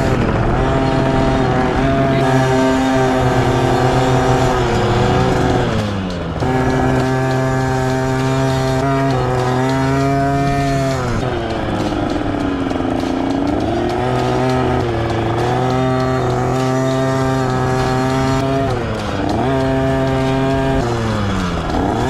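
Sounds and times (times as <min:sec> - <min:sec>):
two-stroke dirt bike engine revving: 0:00.0 - 0:22.0.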